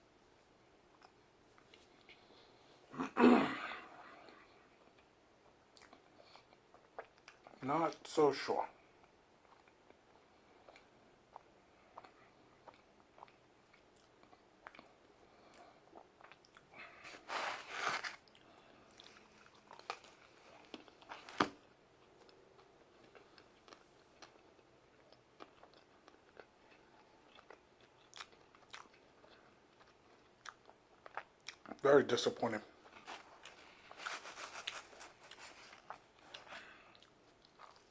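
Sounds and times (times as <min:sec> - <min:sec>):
man chewing food: 0:00.8 - 0:02.9, 0:03.9 - 0:07.6, 0:08.8 - 0:31.8, 0:32.7 - 0:37.9.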